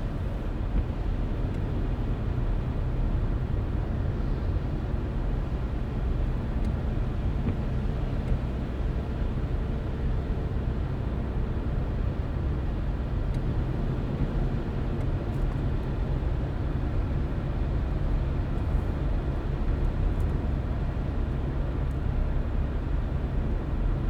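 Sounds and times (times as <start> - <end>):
car tyres and engine rumble: 0.0 - 24.0.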